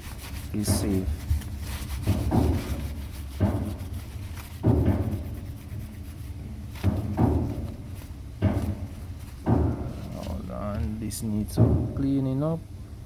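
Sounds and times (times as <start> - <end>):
rubbing strokes: 0.0 - 10.6.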